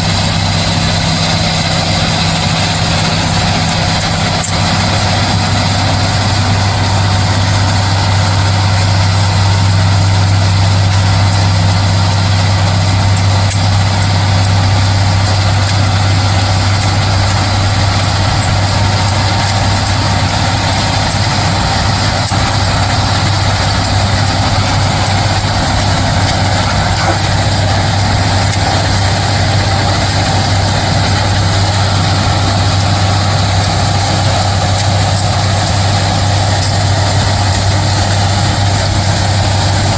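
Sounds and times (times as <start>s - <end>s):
diesel engine running: 0.0s - 39.9s
machinery noise: 0.0s - 39.9s.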